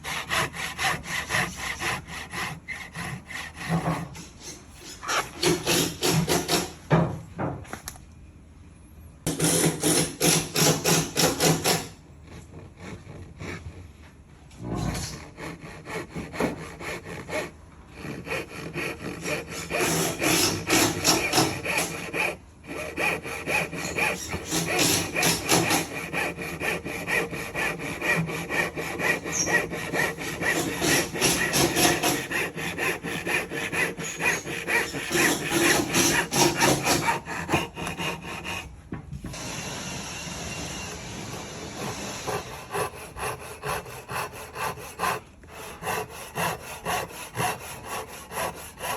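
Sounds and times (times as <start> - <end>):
hand saw cutting wood: 0.0 - 6.8, 9.3 - 13.8, 14.8 - 38.7, 41.7 - 48.9.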